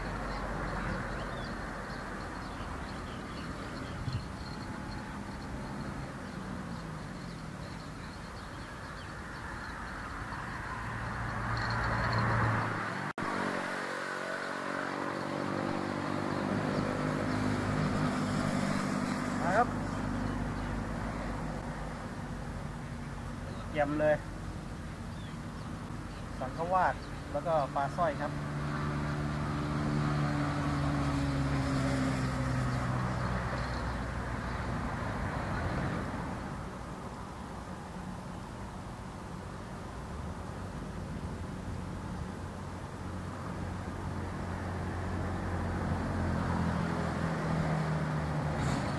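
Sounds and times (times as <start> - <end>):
passing vehicle engine hum: 0.0 - 48.9
traffic rumble: 0.0 - 48.9.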